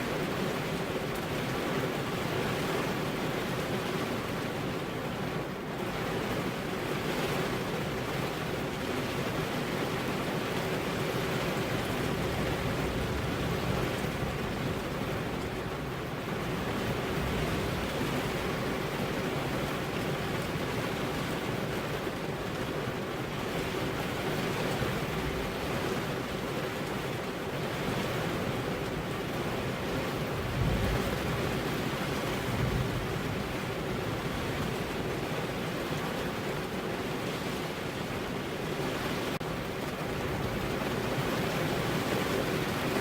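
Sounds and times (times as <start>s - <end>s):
rain on car window: 0.0s - 43.0s.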